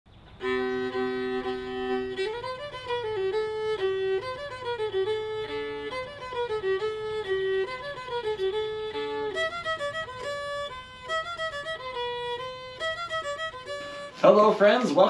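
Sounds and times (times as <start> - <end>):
fiddle tune: 0.2 - 15.0.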